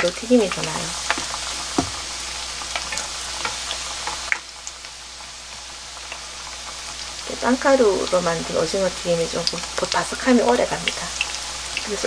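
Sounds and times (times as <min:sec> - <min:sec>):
squid deep-frying with pops: 0:00.0 - 0:12.0.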